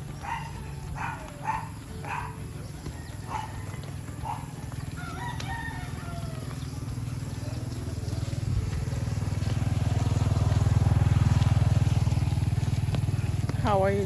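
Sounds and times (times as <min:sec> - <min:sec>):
motorcycle engine passing: 0:00.0 - 0:14.0.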